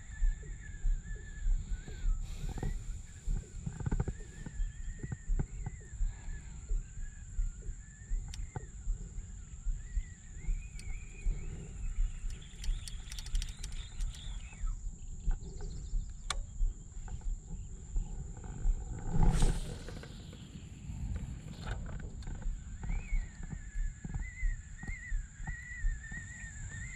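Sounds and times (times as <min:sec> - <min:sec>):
faint wavering whistle-like tone: 0:00.0 - 0:26.9
steady high hum: 0:00.0 - 0:26.9
wind buffeting microphone: 0:00.0 - 0:26.9.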